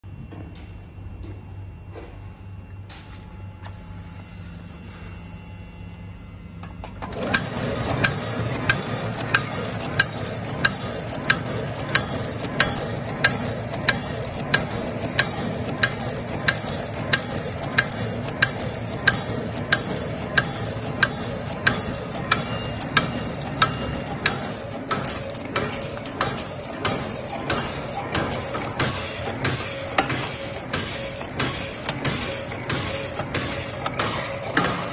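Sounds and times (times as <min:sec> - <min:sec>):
packing machine running: 0:06.6 - 0:34.9
sharp machine clicks: 0:06.9 - 0:34.9.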